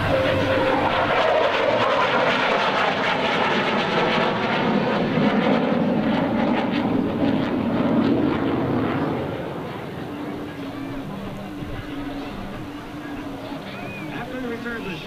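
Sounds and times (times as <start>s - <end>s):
fighter jet engine roar: 0.0s - 15.0s.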